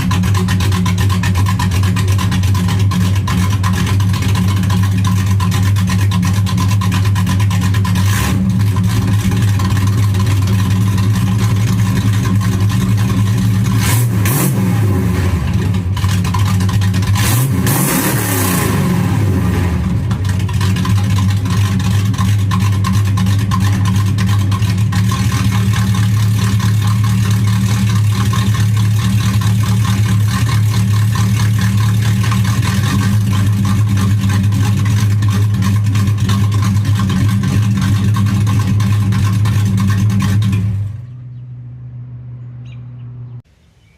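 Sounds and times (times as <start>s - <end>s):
car engine idling and revving: 0.0s - 43.5s.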